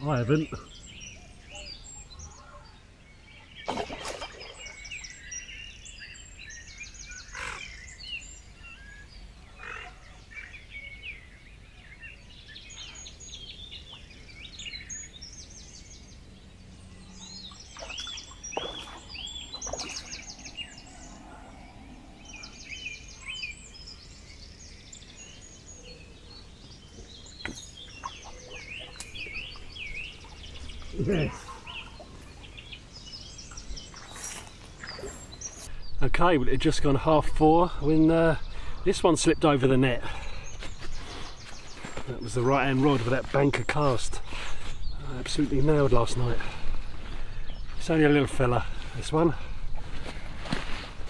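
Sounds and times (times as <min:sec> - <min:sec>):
birds singing: 0:00.0 - 0:51.0.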